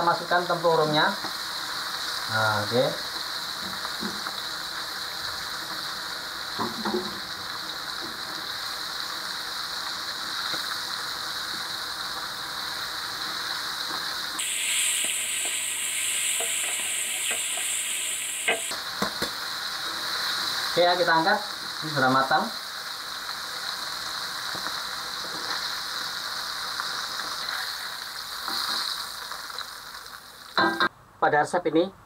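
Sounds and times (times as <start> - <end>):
crab deep-frying in hot oil: 0.0 - 30.9.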